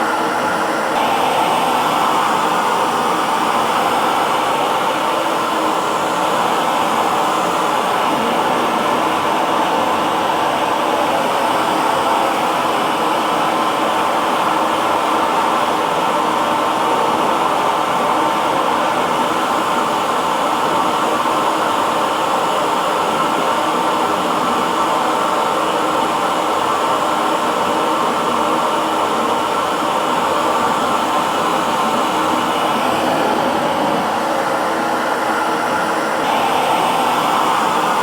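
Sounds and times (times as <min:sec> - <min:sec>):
hair dryer running: 0:00.0 - 0:38.0.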